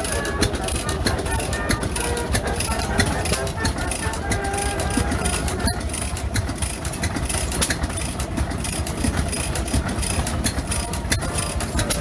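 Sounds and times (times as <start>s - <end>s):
stationary engine idling: 0.0s - 12.0s
valve gear clicking: 0.0s - 12.0s.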